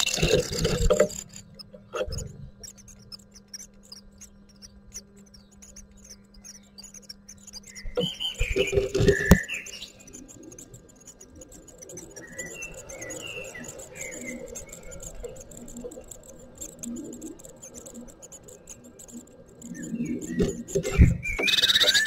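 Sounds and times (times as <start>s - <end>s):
bird chirps: 0.0s - 22.0s
nestlings cheeping: 0.0s - 22.0s.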